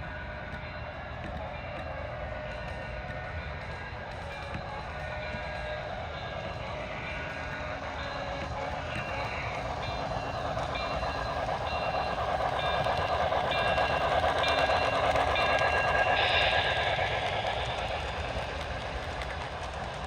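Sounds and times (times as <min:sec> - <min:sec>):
model train rolling and hissing: 0:00.0 - 0:20.0.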